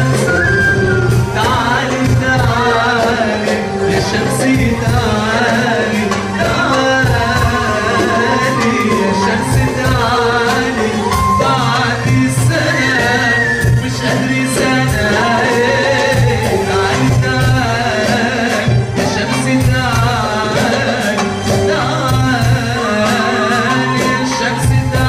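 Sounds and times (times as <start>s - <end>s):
live music with singing: 0.0s - 25.0s.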